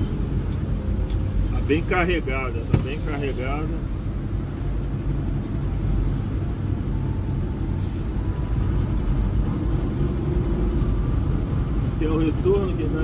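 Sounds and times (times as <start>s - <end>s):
engine and road noise in vehicle cab: 0.0s - 13.0s.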